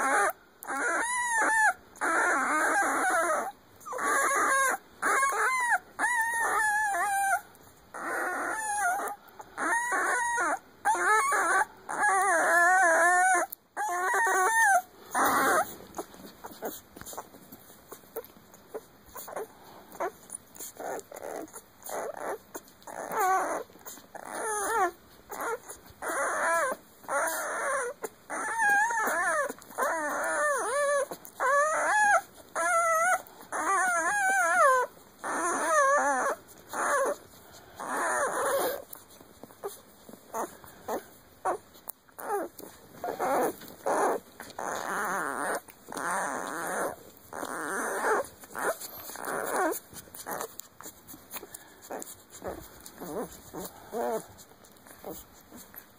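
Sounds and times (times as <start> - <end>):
puppy whining: 0.0 - 55.9.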